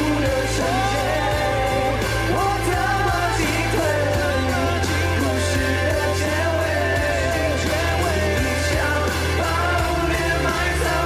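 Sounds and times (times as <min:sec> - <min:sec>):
amplified band with bass: 0:00.0 - 0:11.0
man singing pop song: 0:00.0 - 0:11.0.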